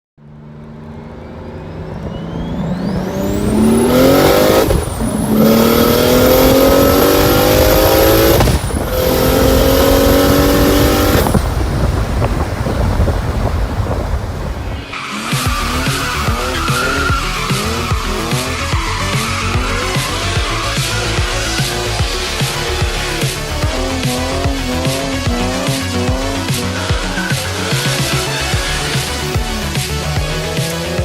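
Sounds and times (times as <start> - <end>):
car engine accelerating with whine: 0.2 - 31.0.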